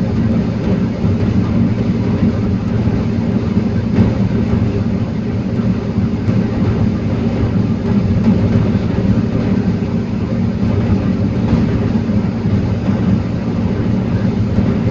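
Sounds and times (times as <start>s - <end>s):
forestry machine engine hum: 0.0s - 14.9s.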